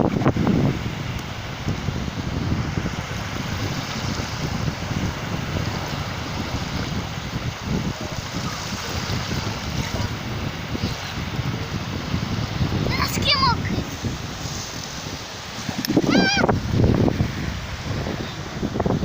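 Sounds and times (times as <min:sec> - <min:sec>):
sea surf washing ashore: 0:00.0 - 0:19.0
wind rumbling on microphone: 0:00.0 - 0:19.0.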